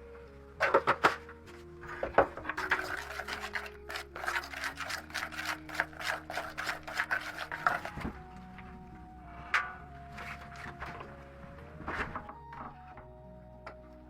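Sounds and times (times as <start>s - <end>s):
soft background music: 0.0s - 14.0s
rubbing or scraping strokes: 0.6s - 12.4s.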